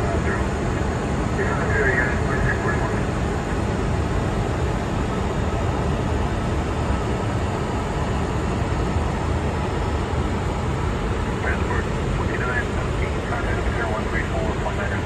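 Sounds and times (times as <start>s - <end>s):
airliner cockpit cruise noise: 0.0s - 15.0s.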